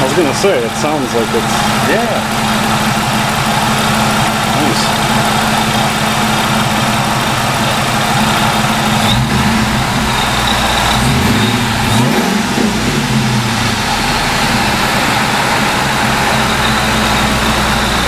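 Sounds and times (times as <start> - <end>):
supercharged engine running: 0.0 - 18.0.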